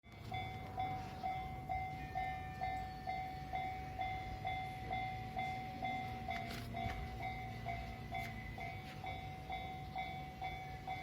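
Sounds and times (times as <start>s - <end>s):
level crossing warning bell: 0.1s - 11.0s.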